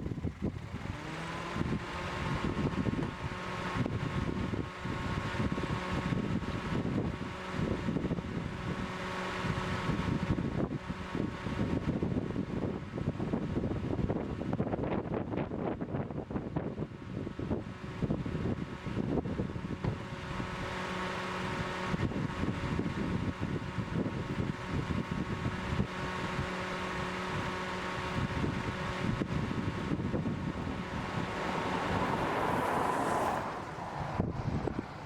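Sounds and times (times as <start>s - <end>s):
wind buffeting microphone: 0.0s - 20.8s, 21.4s - 35.0s
vehicle engine hum: 0.0s - 35.0s.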